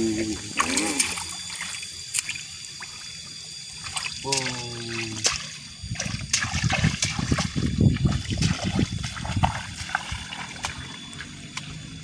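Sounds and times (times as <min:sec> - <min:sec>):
water splashing and sloshing: 0:00.2 - 0:12.0.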